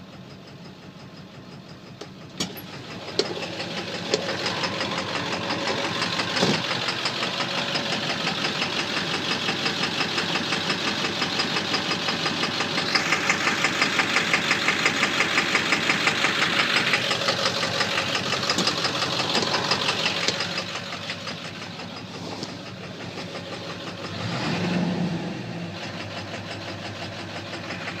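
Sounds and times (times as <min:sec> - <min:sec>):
diesel engine knocking: 0:00.0 - 0:28.0.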